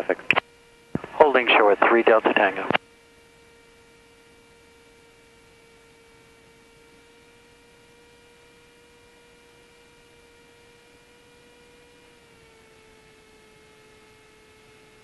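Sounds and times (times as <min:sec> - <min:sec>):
steady whine: 0:00.0 - 0:14.6.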